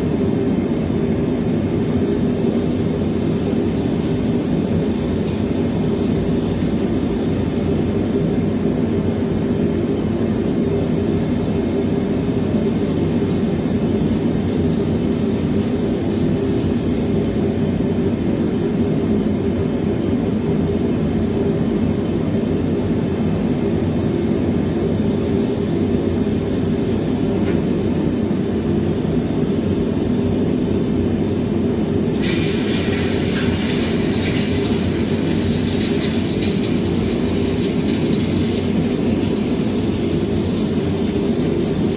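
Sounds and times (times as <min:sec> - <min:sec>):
furnace burner roaring: 0:00.0 - 0:41.9.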